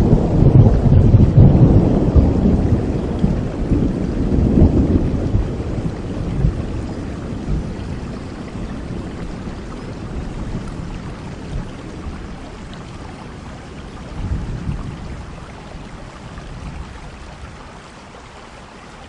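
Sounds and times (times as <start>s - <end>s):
low thunder rumble: 0.0s - 17.8s
steady rainfall: 0.0s - 19.0s.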